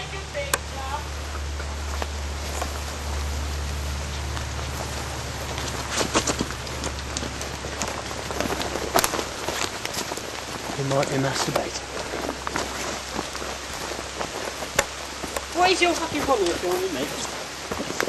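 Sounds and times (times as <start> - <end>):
rain falling: 0.0 - 18.0
steady low hum: 0.0 - 18.0.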